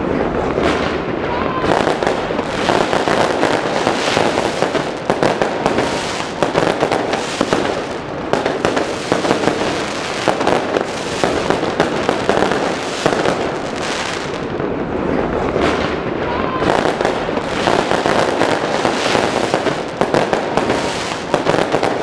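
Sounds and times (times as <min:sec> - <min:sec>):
fireworks popping and crackling: 0:00.0 - 0:22.0.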